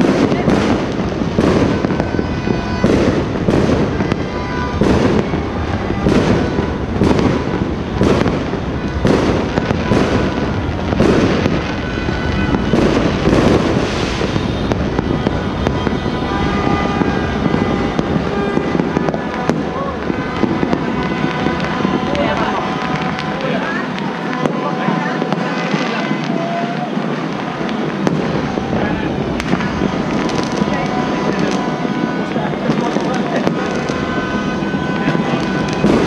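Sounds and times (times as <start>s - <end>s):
fireworks and firecrackers banging: 0.0s - 36.0s
sharp firecracker cracks: 0.0s - 36.0s.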